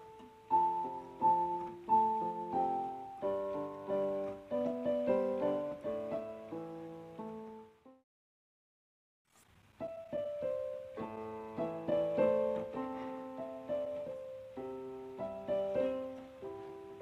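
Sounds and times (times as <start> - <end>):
piano music: 0.0 - 8.0, 9.8 - 17.0.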